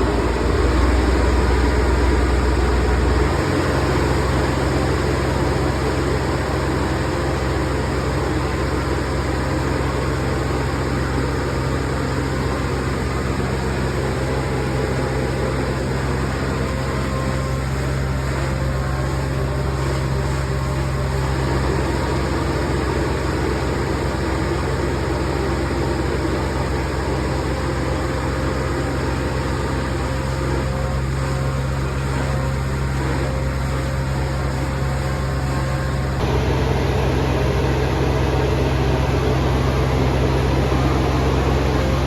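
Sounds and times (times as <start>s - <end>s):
harvesting machine engine drone: 0.0s - 42.0s.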